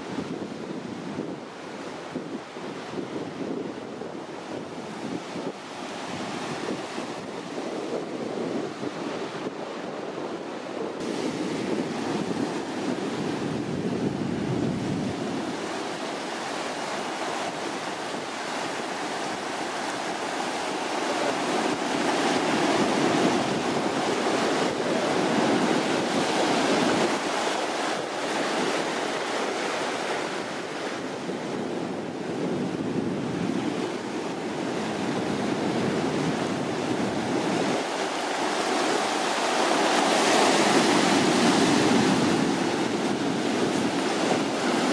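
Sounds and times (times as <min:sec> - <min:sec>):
ocean surf washing ashore: 0:00.0 - 0:44.9
wind buffeting microphone: 0:00.0 - 0:44.9.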